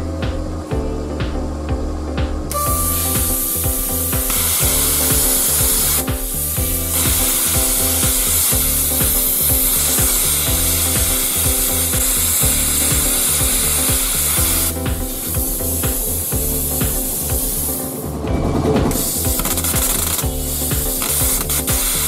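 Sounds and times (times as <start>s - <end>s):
plasma cutter hissing and crackling: 2.5s - 18.0s, 18.9s - 22.0s.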